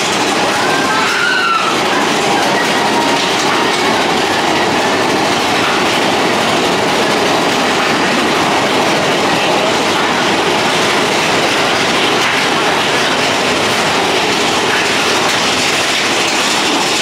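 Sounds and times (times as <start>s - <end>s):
roller coaster cars clattering on track: 0.0s - 17.0s.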